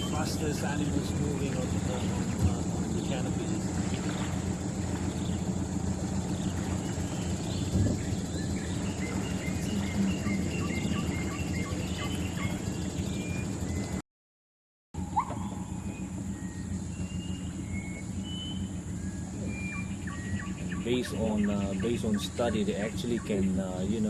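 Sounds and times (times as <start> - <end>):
repeated animal call notes: 0.0 - 13.9, 15.0 - 24.0
high insect drone: 0.0 - 14.0, 15.0 - 24.0
low steady rumble: 0.0 - 14.0, 15.0 - 24.0.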